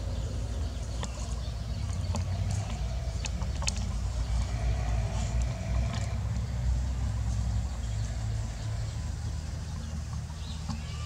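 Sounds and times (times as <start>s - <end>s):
low engine-like rumble: 0.0s - 11.0s.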